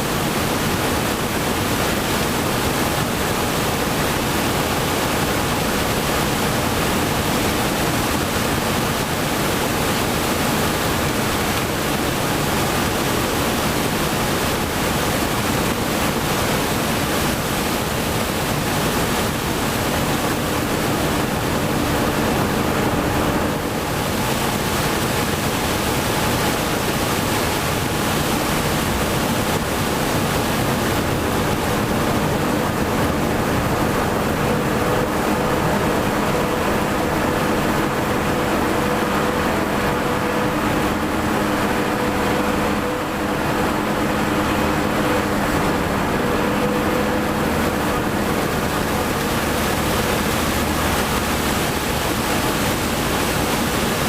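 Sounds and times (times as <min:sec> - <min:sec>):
farm machinery harvesting: 0:00.0 - 0:54.0.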